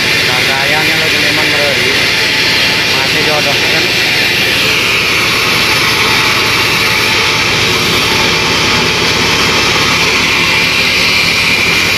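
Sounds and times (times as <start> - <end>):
sawmill machinery droning: 0.0 - 11.9.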